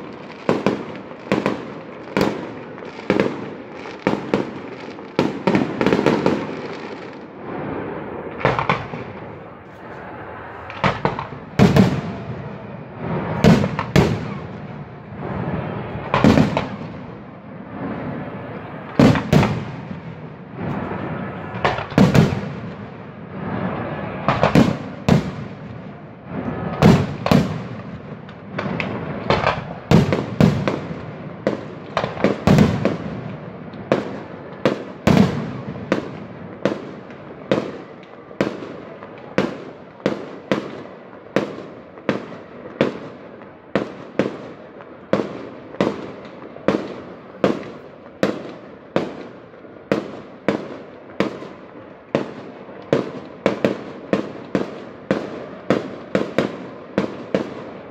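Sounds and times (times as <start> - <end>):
fireworks bursting bangs: 0.0 - 57.9
fireworks crackling: 0.0 - 57.9.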